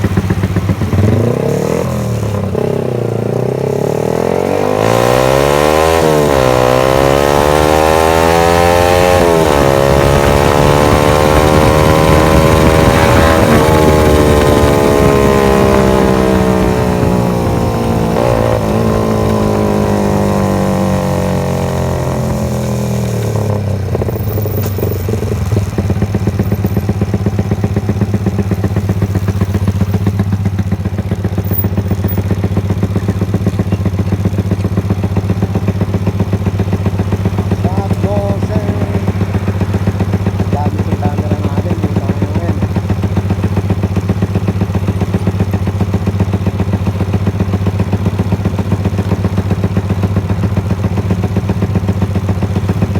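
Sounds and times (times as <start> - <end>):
motorcycle engine revving and idling: 0.0 - 52.9.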